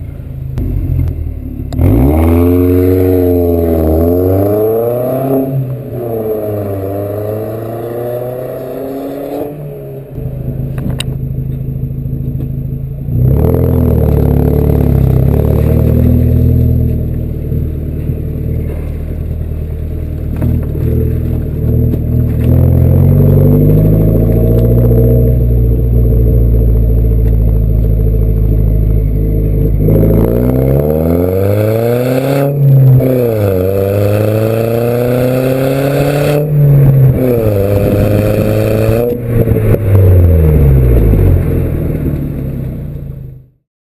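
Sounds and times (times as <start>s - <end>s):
car engine revving: 0.0s - 43.6s.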